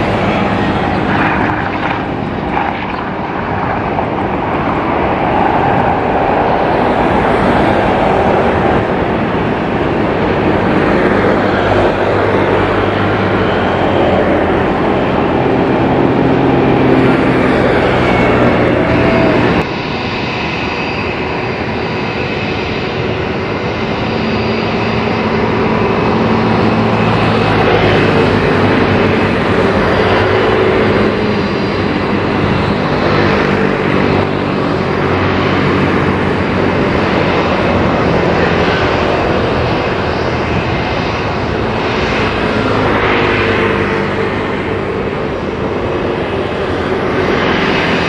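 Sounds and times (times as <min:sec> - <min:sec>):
jet engines whining and rumbling: 0:00.0 - 0:48.0.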